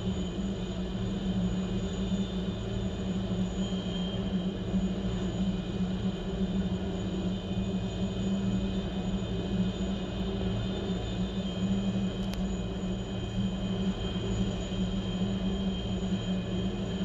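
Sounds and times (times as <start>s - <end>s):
helicopter rotor drone and beat: 0.0s - 17.0s
high turbine whine: 0.0s - 17.0s.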